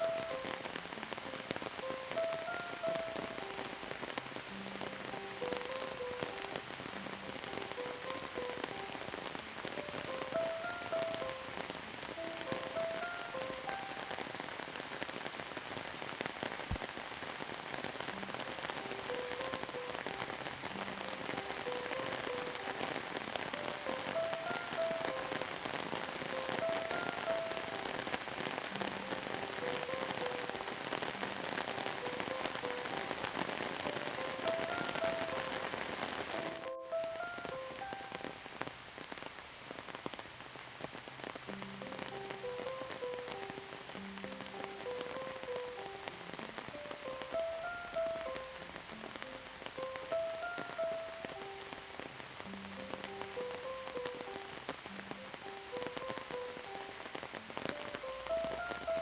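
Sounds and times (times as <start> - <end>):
slow melody of pitched notes: 0.0 - 14.6, 18.2 - 38.4, 41.5 - 59.0
rain patter: 0.0 - 59.0.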